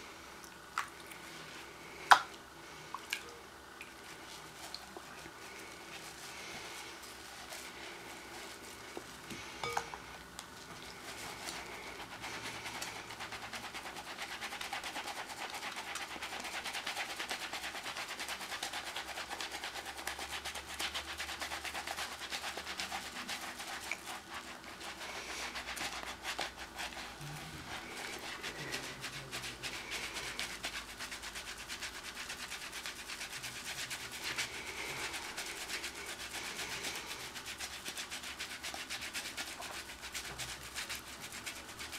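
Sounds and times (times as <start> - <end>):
hands being scrubbed: 4.0 - 9.8, 10.7 - 41.9.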